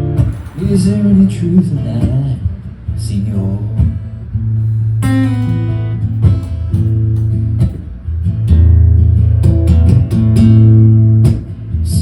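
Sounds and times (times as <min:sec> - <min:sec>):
acoustic guitar strumming chords: 0:00.0 - 0:12.0
low bass notes: 0:00.0 - 0:12.0.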